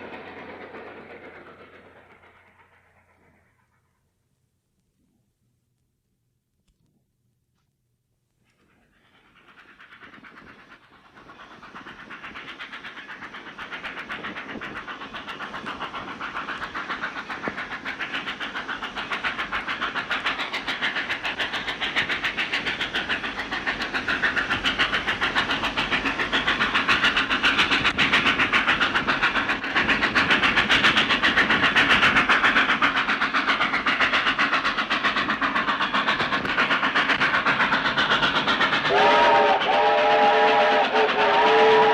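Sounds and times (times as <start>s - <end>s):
steam locomotive approaching: 0.0s - 4.5s, 8.4s - 41.9s.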